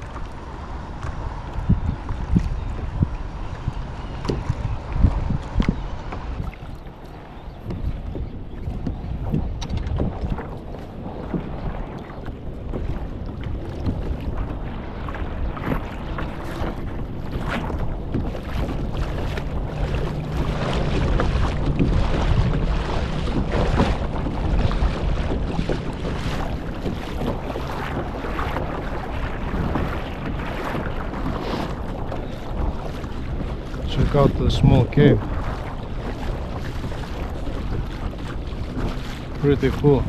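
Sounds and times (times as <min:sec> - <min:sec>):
water slapping kayak hull: 0:00.0 - 0:40.0
wind buffeting microphone: 0:00.0 - 0:40.0.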